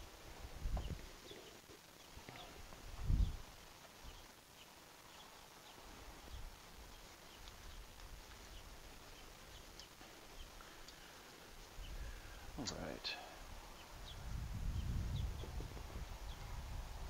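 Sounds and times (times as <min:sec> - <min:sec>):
quiet outdoor background: 0:00.0 - 0:17.0.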